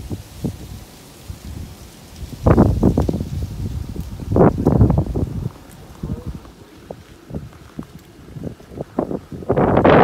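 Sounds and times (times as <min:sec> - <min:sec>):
wind buffeting the microphone: 0:00.0 - 0:10.0.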